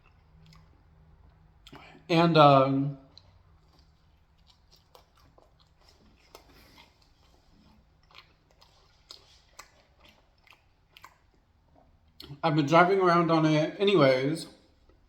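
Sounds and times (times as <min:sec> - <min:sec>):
chewing pizza: 0:00.0 - 0:12.4, 0:14.6 - 0:15.0.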